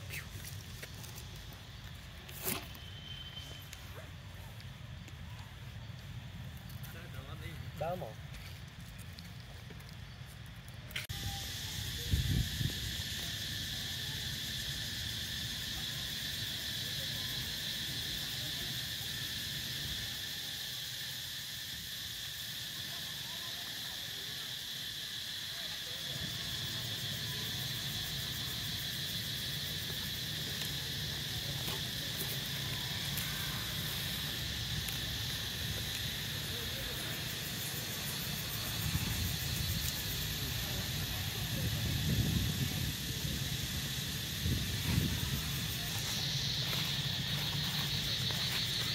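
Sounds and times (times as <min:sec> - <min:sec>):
insects buzzing: 0:00.0 - 0:48.9.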